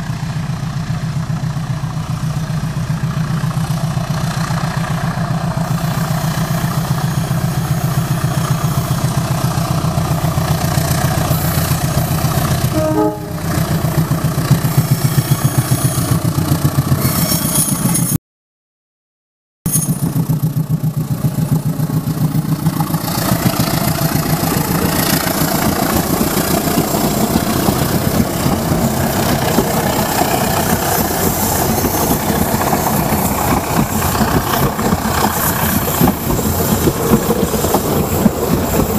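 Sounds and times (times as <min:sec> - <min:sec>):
diesel locomotive engine running: 0:00.0 - 0:18.2, 0:19.7 - 0:38.9
train rumble: 0:00.0 - 0:18.2, 0:19.7 - 0:38.9.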